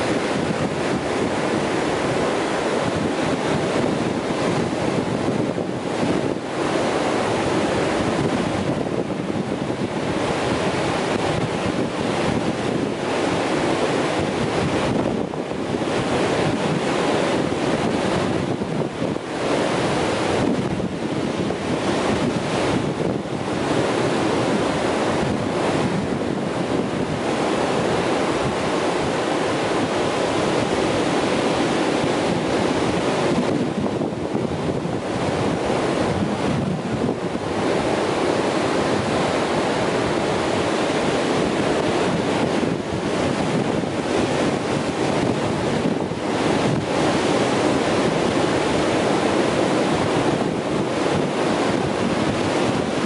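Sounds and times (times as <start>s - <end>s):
ocean waves breaking and washing: 0.0s - 53.0s.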